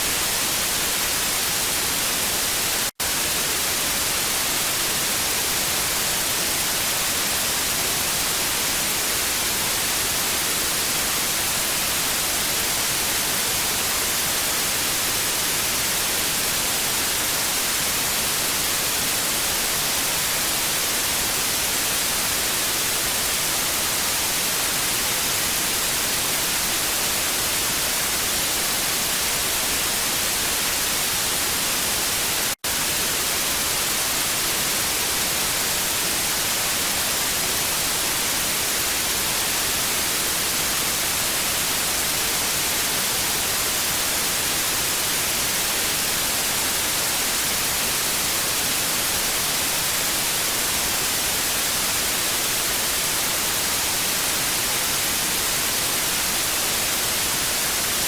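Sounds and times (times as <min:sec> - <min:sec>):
television static hiss: 0:00.0 - 0:58.0.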